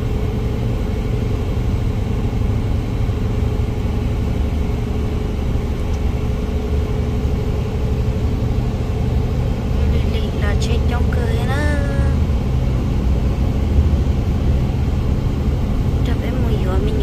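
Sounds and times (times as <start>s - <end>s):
faint steady hum: 0.0s - 17.0s
motor vehicle engine rumble: 0.0s - 17.0s.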